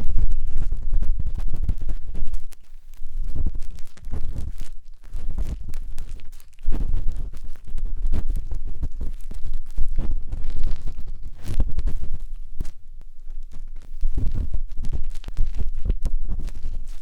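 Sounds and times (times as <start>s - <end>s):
matchstick scratching on microphone: 0.0s - 17.0s.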